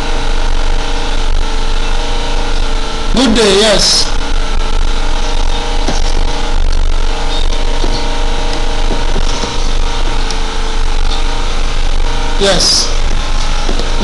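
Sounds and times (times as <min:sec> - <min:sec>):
loud engine-like drone: 0:00.0 - 0:14.0.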